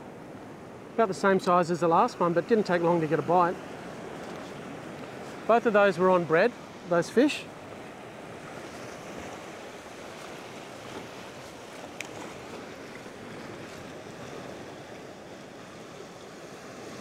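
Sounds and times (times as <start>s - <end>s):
ocean surf washing against rocks: 0.1s - 17.0s.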